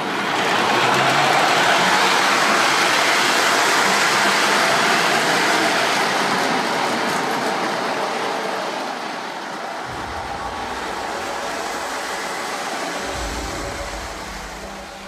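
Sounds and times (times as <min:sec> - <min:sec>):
model train running on rails: 0:00.0 - 0:15.0.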